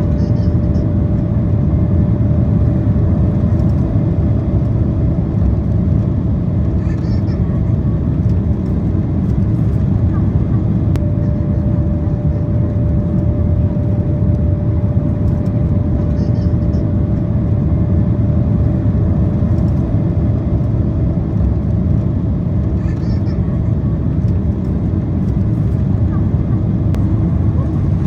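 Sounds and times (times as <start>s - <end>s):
low rumble of engines and airflow: 0.0s - 28.0s.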